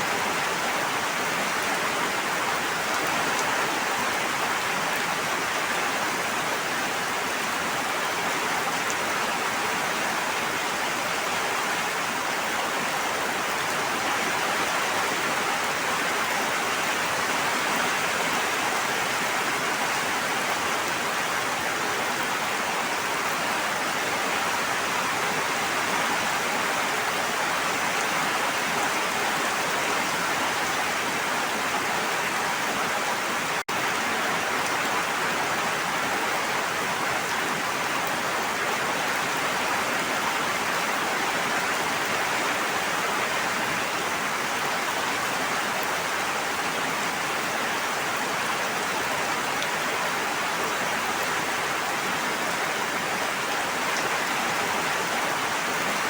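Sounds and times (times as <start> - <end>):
steady water noise: 0.0 - 56.0.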